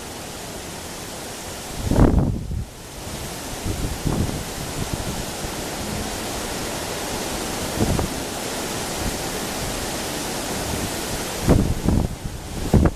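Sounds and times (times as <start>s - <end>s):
wind blowing: 0.0s - 12.9s
wind buffeting microphone: 1.6s - 12.9s.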